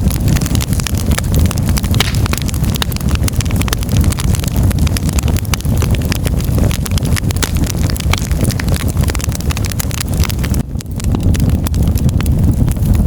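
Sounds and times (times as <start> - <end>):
burning wood crackling and popping: 0.0 - 13.0
fire roaring: 0.0 - 13.0.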